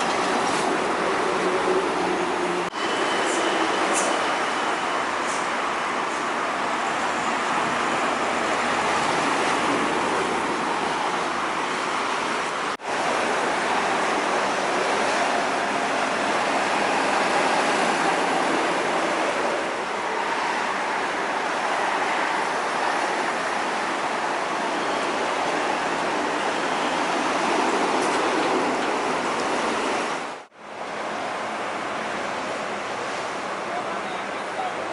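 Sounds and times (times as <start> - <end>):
passing road traffic: 0.0 - 34.9.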